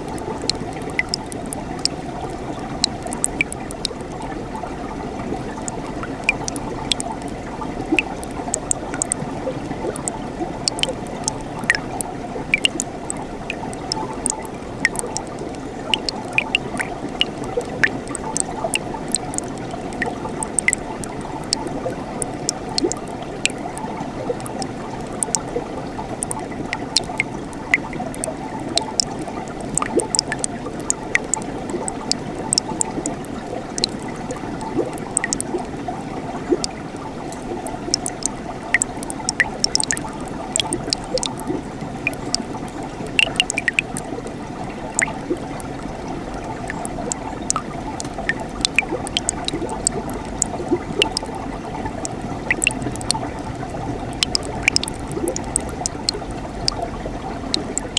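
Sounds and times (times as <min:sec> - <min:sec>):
stream flowing over rocks: 0:00.0 - 0:57.9
water splashes and drips: 0:00.0 - 0:57.9.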